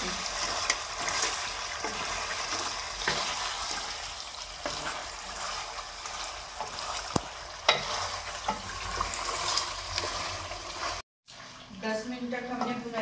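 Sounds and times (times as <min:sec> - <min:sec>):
wooden spoon stirring: 0:00.0 - 0:11.0
meat sizzling in a metal pan: 0:00.0 - 0:13.0.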